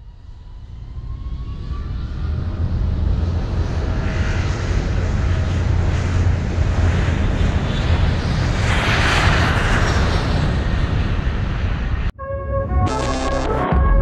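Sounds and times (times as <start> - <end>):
deep rumble with rushing noise: 0.3 - 14.0.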